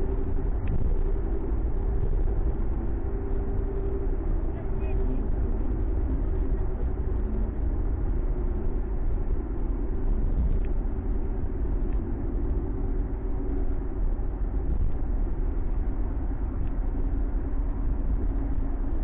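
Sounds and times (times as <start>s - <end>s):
car engine drone: 0.0s - 19.0s
road and tyre rumble: 0.0s - 19.0s.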